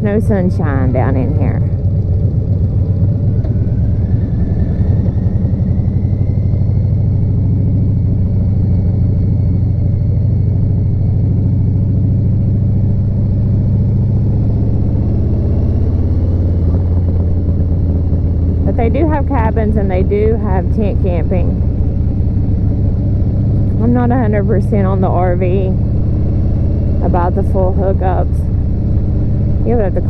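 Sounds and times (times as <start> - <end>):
faint whine: 0.0 - 30.0
motorcycle engine rumbling: 0.0 - 30.0.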